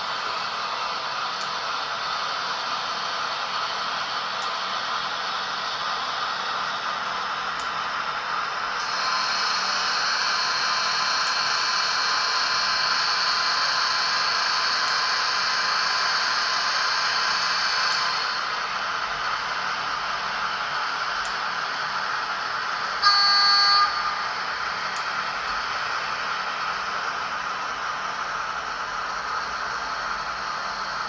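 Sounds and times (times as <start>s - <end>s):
model train whirring: 0.0s - 31.0s.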